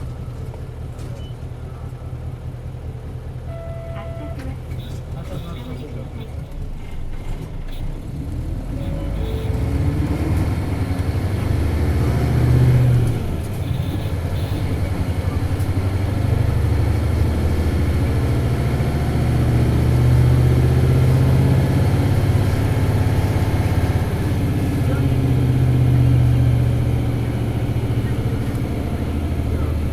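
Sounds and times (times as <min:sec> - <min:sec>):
diesel bus engine revving: 0:04.5 - 0:29.9.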